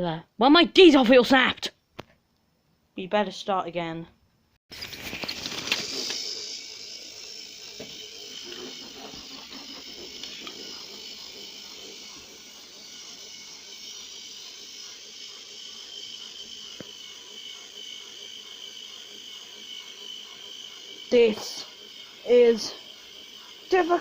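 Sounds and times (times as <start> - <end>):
toy train motors whining: 4.7 - 24.0.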